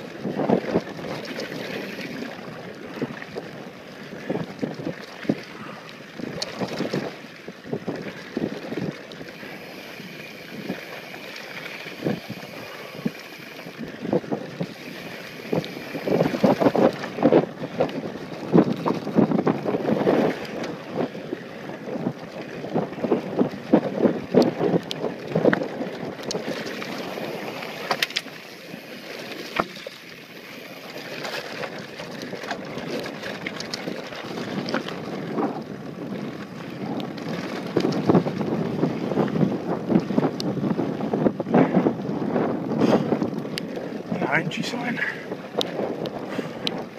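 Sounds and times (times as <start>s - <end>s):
bike rattling over bumps: 0.0s - 46.9s
bike tyres crunching over gravel: 0.0s - 46.9s
wind noise on microphone: 0.0s - 46.9s.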